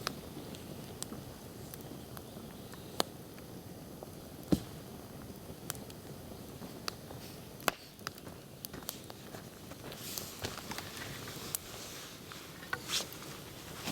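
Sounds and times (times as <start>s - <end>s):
campfire crackling: 0.0s - 13.9s.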